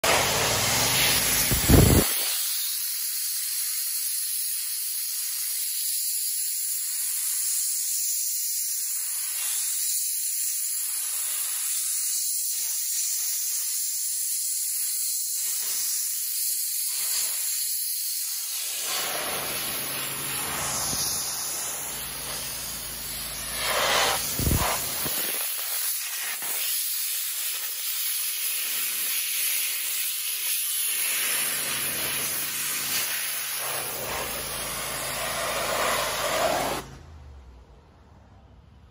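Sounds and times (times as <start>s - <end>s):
pressure washer jet hissing: 0.0s - 37.0s.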